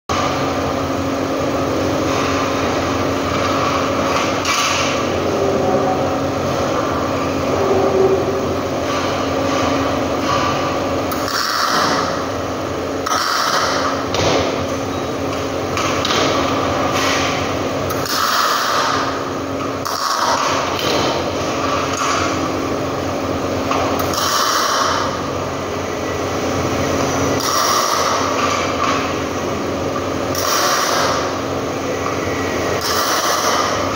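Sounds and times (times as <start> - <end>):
workshop machine hum: 0.1 - 33.9.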